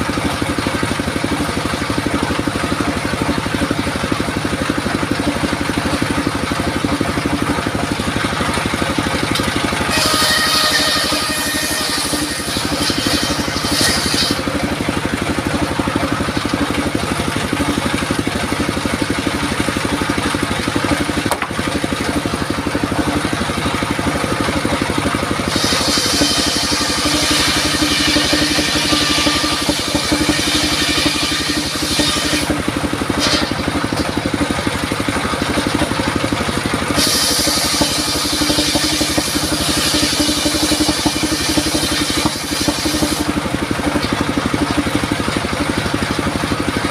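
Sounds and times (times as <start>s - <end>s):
engine-driven sawmill running: 0.0s - 46.9s
saw blade cutting wood: 0.0s - 46.9s.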